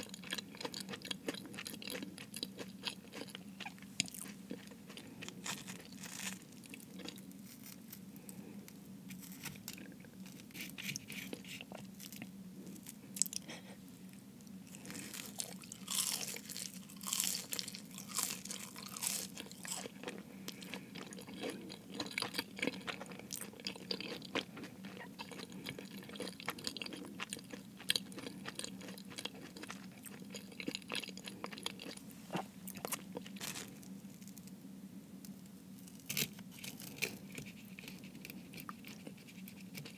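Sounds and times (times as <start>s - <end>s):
pastry crust crunching while chewing: 0.0s - 13.6s, 14.5s - 34.6s, 35.3s - 39.9s.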